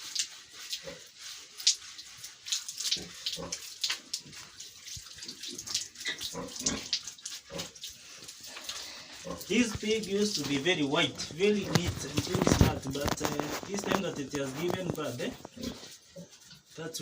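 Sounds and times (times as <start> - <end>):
water splashing: 0.0 - 15.7.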